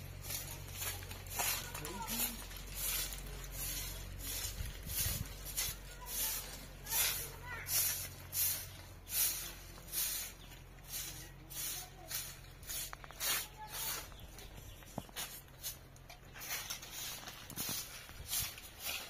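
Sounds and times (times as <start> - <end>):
broom sweeping: 0.0 - 19.0.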